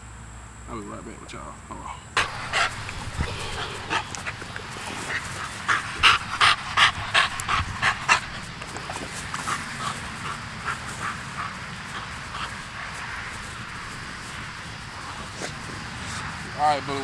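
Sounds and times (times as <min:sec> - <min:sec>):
puppy panting: 0:01.8 - 0:17.0.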